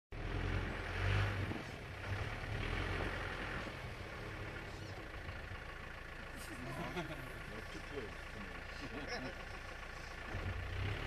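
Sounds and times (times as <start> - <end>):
vehicle engine idling: 0.1 - 11.0.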